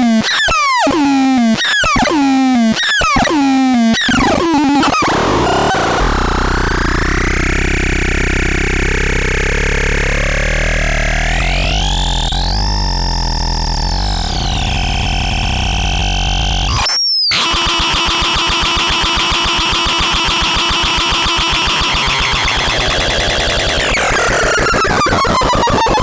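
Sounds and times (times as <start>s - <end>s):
harsh synthesizer tones: 3.0s - 26.0s.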